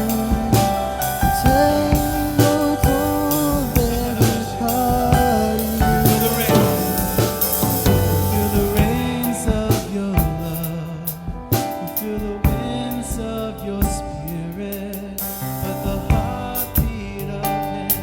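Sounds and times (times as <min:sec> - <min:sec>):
drum kit: 0:00.0 - 0:18.0
singing: 0:00.0 - 0:18.0
worship band playing: 0:00.0 - 0:18.0.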